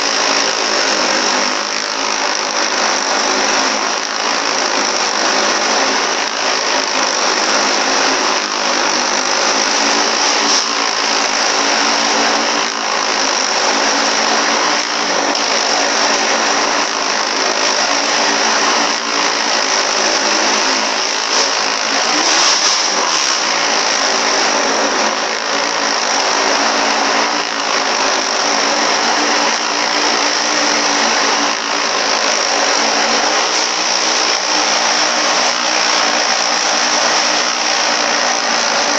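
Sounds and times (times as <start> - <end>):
motorcycle engine running loud: 0.0 - 38.9.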